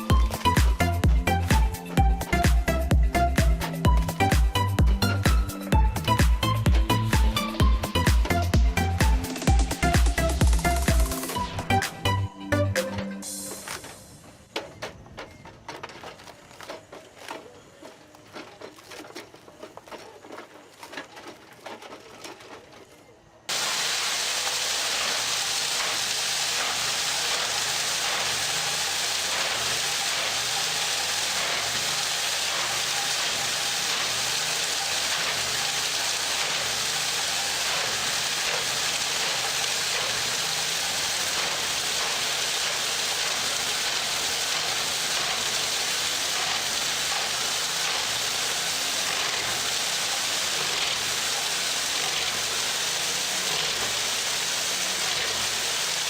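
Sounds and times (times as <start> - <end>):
hissing machine noise: 0.0 - 56.0.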